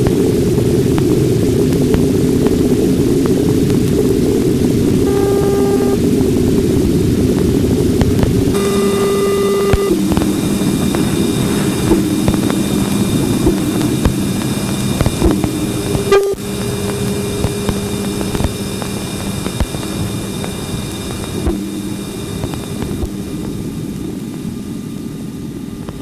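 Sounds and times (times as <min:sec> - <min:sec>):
dense crackling hiss: 0:00.0 - 0:26.0
faint high whines: 0:00.0 - 0:26.0
steady droning tones: 0:00.0 - 0:26.0.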